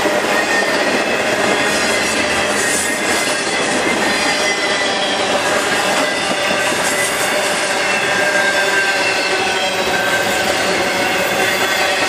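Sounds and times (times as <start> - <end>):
high-pitched wheel squeals: 0.0 - 12.0
train wheels rumbling on rails: 0.0 - 12.0.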